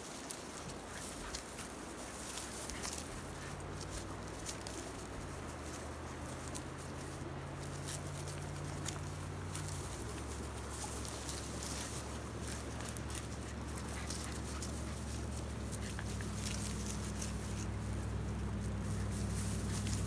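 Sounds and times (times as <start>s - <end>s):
rustling through dry grass: 0.0s - 20.0s.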